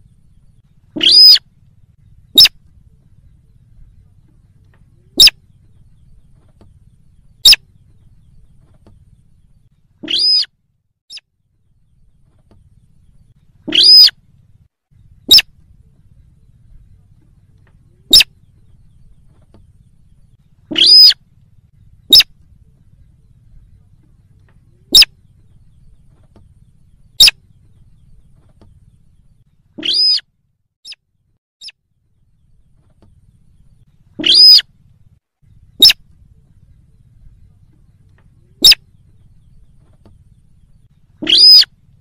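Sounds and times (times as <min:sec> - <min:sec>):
rail bird calls: 0:00.0 - 0:11.2, 0:11.8 - 0:30.3, 0:32.4 - 0:42.0.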